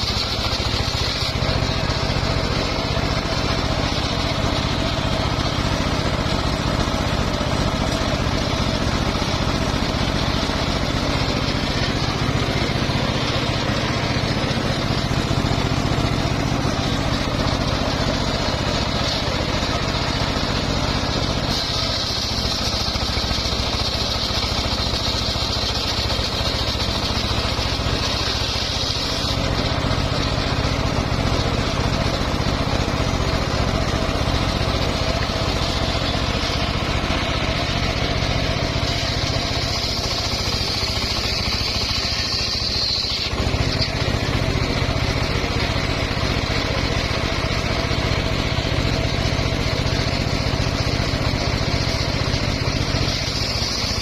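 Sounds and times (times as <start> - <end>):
saw blade whine: 0.0 - 54.0
sawmill engine running: 0.0 - 54.0.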